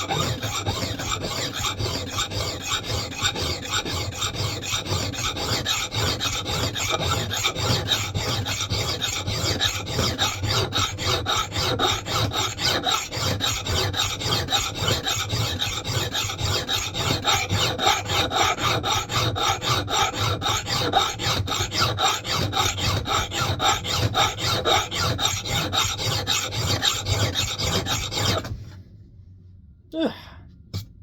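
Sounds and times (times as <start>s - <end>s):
hand file rasping on steel: 0.0s - 28.6s.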